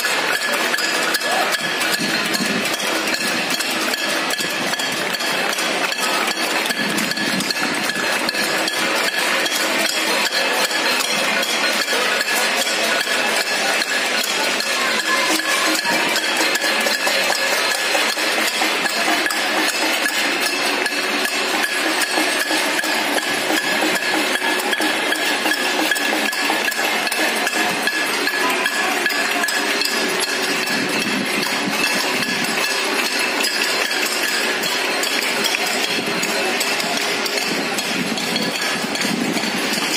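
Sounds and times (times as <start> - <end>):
banging metal plates and utensils: 0.0 - 39.9
people clapping: 0.0 - 39.9
steady ringing tones: 0.0 - 39.9.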